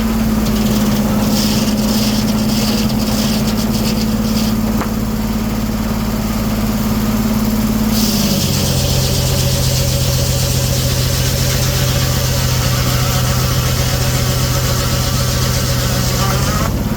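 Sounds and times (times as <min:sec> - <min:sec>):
sawmill machinery humming: 0:00.0 - 0:16.9.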